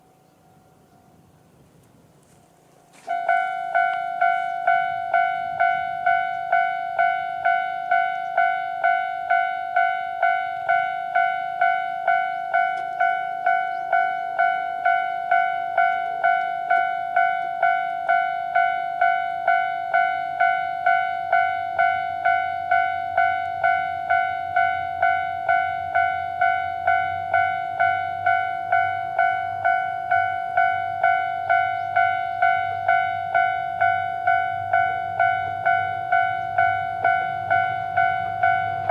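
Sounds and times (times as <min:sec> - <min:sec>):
level-crossing warning bell: 0:03.0 - 0:38.9.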